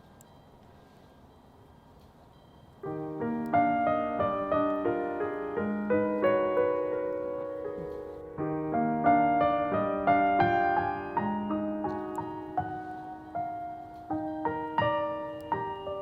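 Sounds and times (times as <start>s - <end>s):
gentle piano music: 1.6s - 16.0s.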